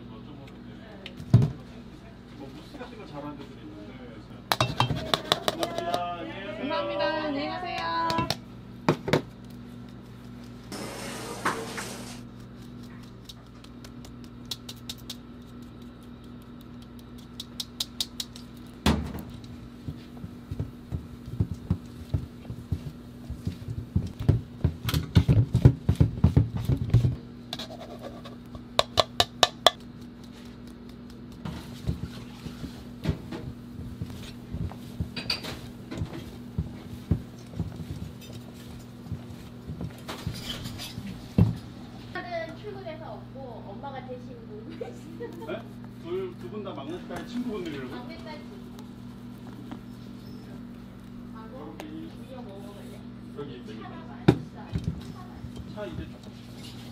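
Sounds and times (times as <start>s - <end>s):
steady low hum: 6.1s - 56.9s.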